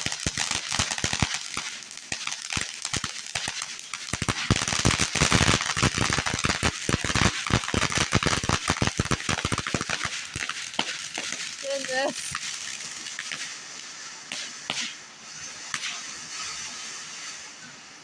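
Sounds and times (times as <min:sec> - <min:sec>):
fireworks hissing and crackling: 0:00.0 - 0:18.0.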